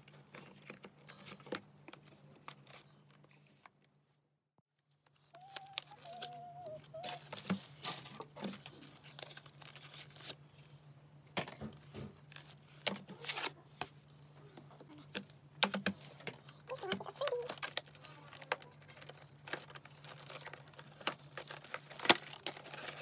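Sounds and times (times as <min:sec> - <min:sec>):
cardboard and plastic packaging rustling: 0:00.0 - 0:03.9, 0:04.7 - 0:10.7, 0:11.3 - 0:23.0.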